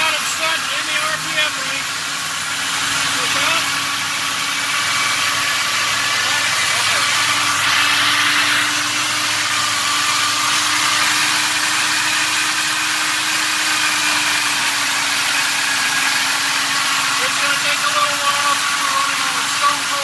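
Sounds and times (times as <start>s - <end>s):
engine running at raised idle: 0.0s - 20.0s.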